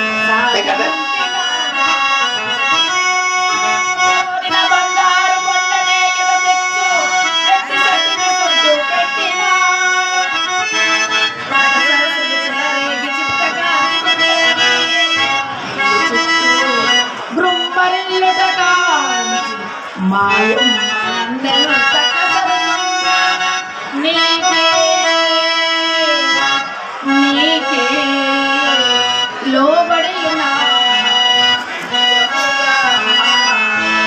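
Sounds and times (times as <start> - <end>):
harmonium melody: 0.0 - 34.0.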